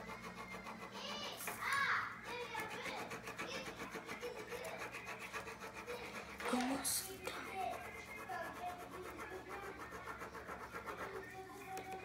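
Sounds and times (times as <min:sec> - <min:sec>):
pen scribbling on paper: 0:00.0 - 0:12.0.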